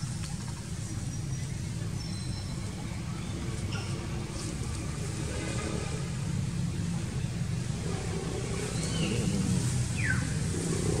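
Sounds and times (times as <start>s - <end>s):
low motor-like rumble: 0.0s - 11.0s.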